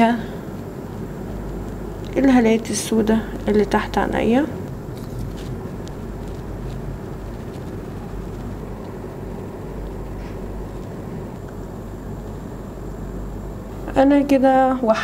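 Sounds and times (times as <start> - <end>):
low background rumble: 0.0 - 15.0
low hum: 0.0 - 15.0.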